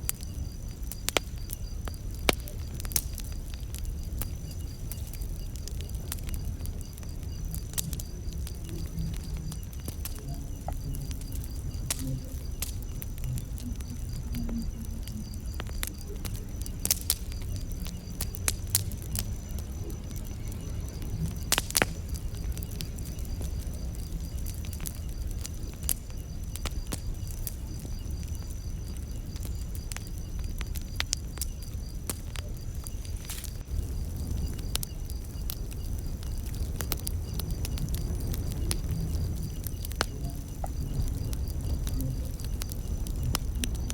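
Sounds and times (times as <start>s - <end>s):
burning wood popping: 0.0s - 43.9s
campfire crackling: 0.0s - 43.9s
insect trill: 0.0s - 43.9s.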